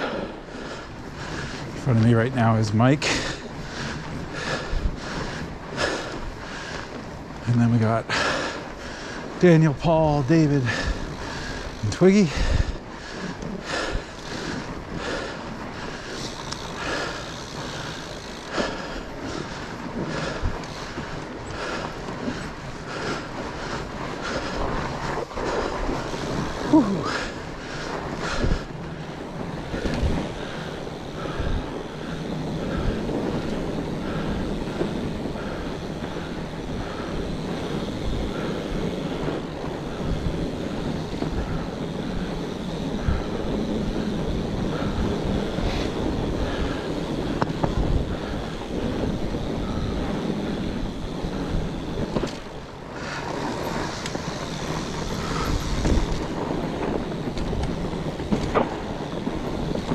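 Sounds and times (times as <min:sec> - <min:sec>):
bike tyres rolling on trail: 0:00.0 - 0:59.9
wind buffeting microphone: 0:00.0 - 0:59.9.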